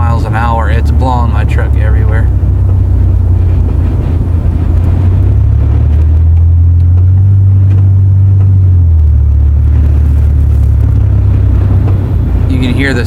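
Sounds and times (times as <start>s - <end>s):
wind buffeting truck cab: 0.0s - 13.0s.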